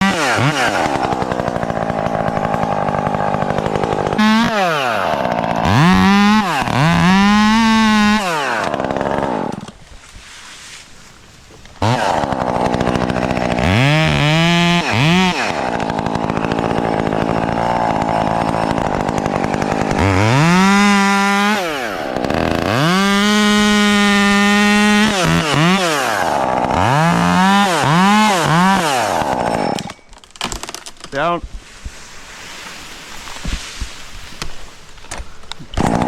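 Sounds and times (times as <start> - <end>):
chainsaw engine revving: 0.0 - 9.8, 11.6 - 30.7, 35.6 - 36.0.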